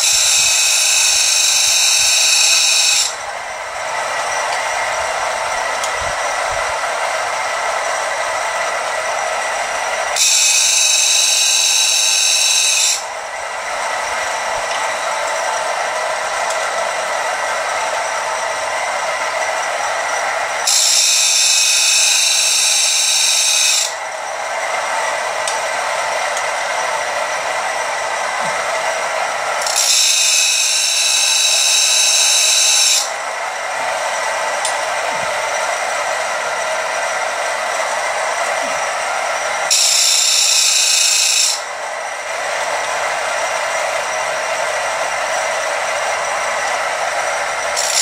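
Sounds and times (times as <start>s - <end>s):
grinder electric motor running: 0.0s - 48.0s.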